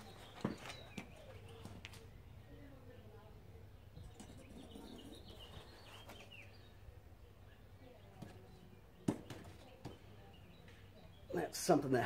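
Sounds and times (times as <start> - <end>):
faint bird chirps: 0.0 - 11.5
low steady hum: 0.0 - 11.8.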